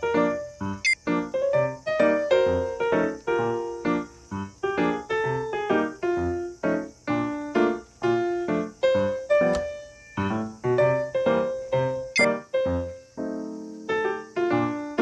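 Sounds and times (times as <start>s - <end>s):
piano-like keyboard notes: 0.0s - 15.0s.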